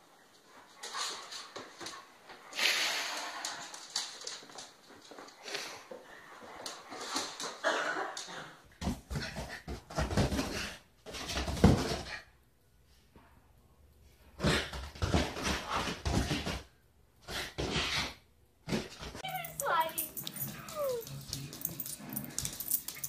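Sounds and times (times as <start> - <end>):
cat and dog play-fighting: 0.0 - 12.5, 14.0 - 23.0.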